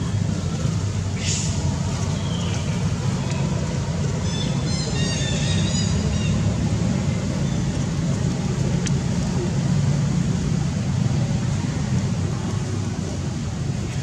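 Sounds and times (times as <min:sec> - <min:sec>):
background traffic rumble: 0:00.0 - 0:14.0.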